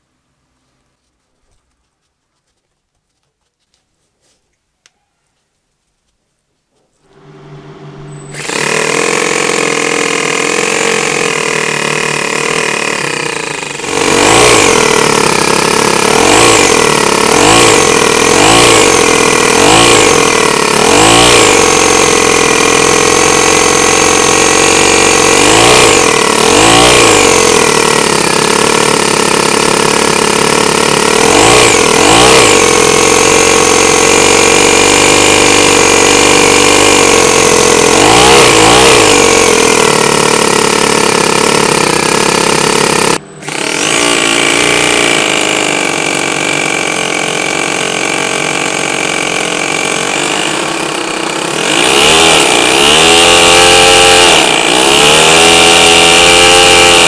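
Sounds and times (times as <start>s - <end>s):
model engine revving: 7.0s - 57.0s.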